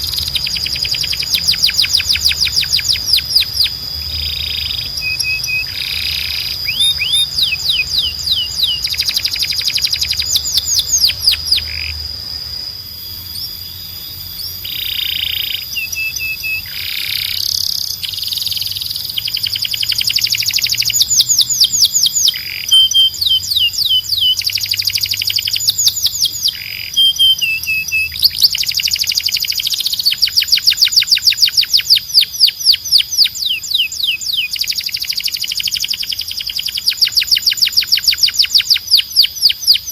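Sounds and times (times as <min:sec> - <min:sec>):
canary singing trills: 0:00.0 - 0:39.9
steady high whistle-like tone: 0:00.0 - 0:39.9.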